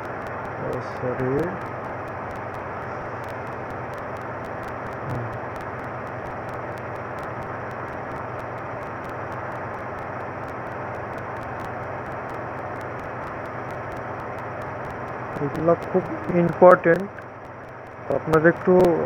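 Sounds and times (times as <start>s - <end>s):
background hiss: 0.0s - 19.0s
faint rapid ticking: 0.0s - 19.0s.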